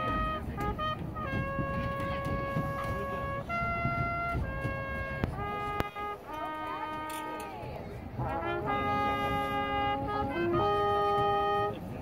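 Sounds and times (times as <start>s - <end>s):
brass instrument long notes: 0.0s - 12.0s
crowd murmur: 0.0s - 12.0s.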